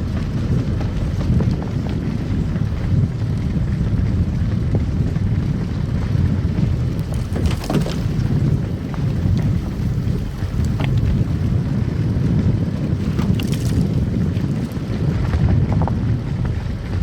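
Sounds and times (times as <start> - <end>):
car driving on snow: 0.0 - 17.0.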